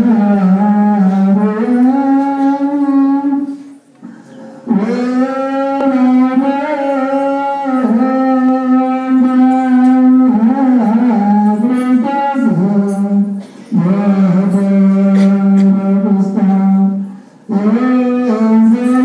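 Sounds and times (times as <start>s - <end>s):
man chanting long notes: 0.0s - 19.0s.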